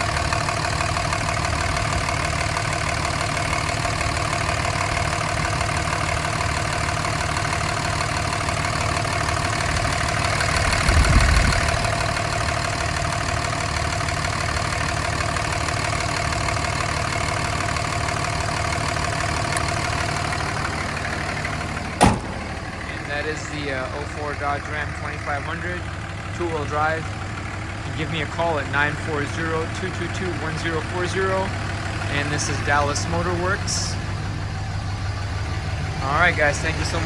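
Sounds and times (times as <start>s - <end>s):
diesel engine idling: 0.0s - 37.0s
low engine rumble: 0.0s - 37.0s.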